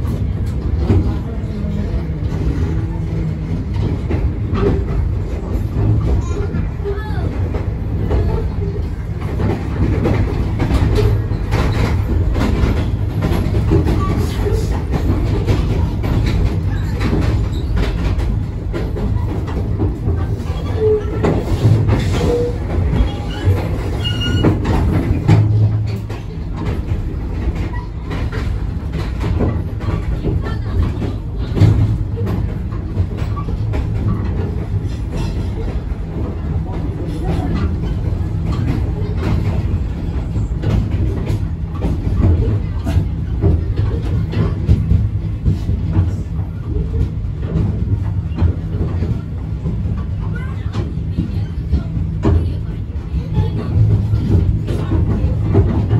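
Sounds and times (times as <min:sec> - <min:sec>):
train coaches rumbling past: 0:00.0 - 0:55.9
wheels clattering over rail joints: 0:00.0 - 0:55.9.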